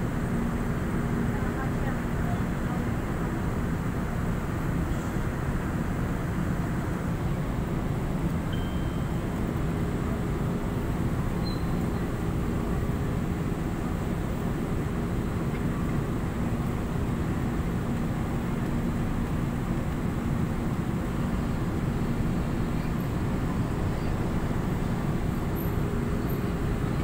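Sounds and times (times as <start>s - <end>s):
train carriage rumble and hum: 0.0s - 27.0s.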